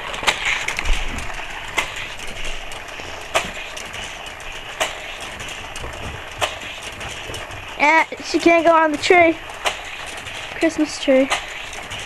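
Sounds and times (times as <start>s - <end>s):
sharp clacks: 0.0s - 12.0s
toy track booster whirring: 0.0s - 12.0s.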